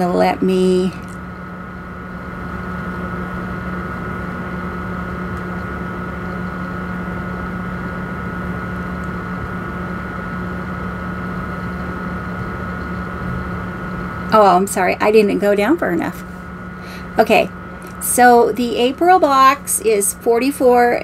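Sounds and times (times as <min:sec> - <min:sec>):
high-pitched machine whine: 0:00.0 - 0:21.0
machine hum: 0:00.0 - 0:21.0.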